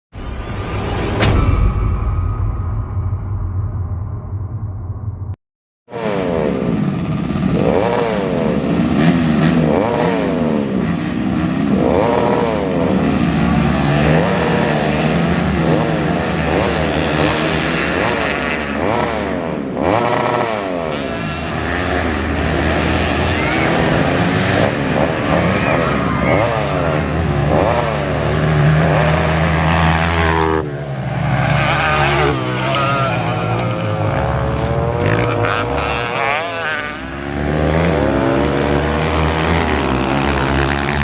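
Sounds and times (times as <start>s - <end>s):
dirt bike engines revving: 5.9s - 41.0s.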